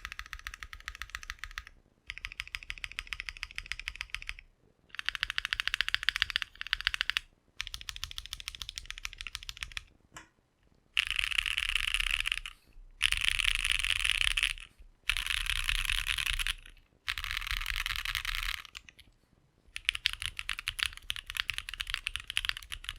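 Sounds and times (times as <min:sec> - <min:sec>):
mechanical keyboard typing: 0:00.0 - 0:09.9, 0:11.0 - 0:19.0, 0:19.8 - 0:22.9.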